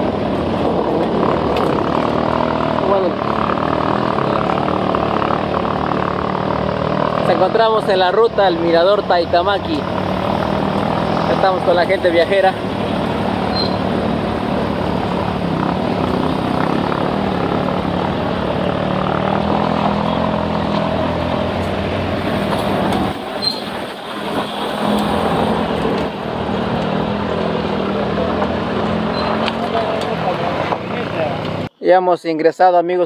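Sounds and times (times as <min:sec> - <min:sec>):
car engine and road noise: 0:00.0 - 0:31.8.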